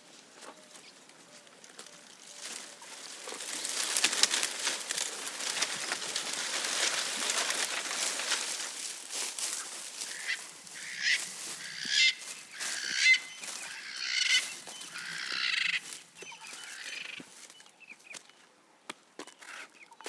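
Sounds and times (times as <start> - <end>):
birds calling harshly: 0.4 - 18.4.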